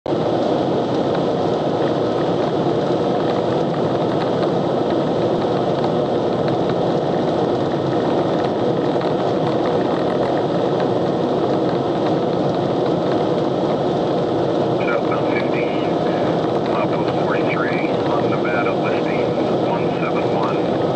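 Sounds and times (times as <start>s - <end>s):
road and wind noise in car: 0.1s - 20.9s.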